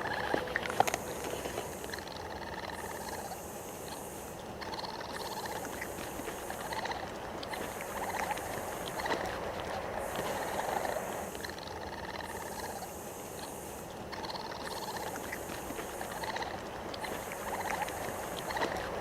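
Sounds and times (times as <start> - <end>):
background hiss: 0.0 - 19.0
raccoon trilling calls: 0.0 - 19.0.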